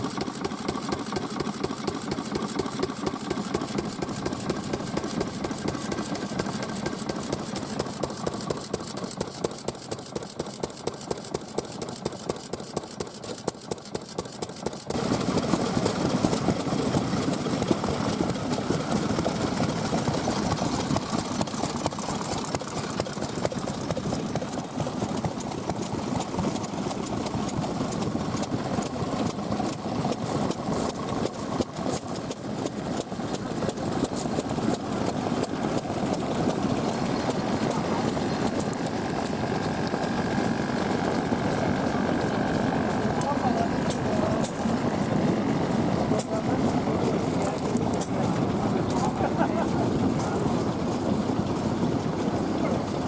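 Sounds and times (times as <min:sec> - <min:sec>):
loud full engine: 0:00.0 - 0:53.0
stationary engines running: 0:00.0 - 0:53.0.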